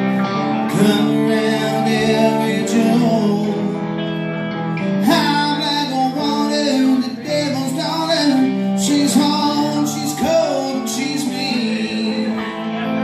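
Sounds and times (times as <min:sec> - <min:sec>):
guitar chord with upward slide: 0:00.0 - 0:13.0
live band playing: 0:00.0 - 0:13.0.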